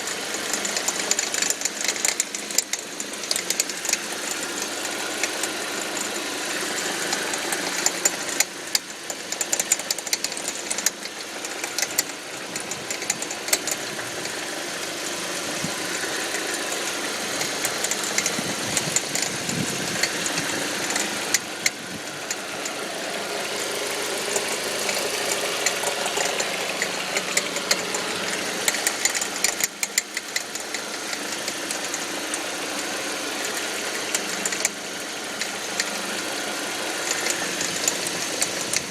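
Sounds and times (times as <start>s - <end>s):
car engine running: 0.0s - 38.9s
rattle of sharp clicks: 0.0s - 38.9s.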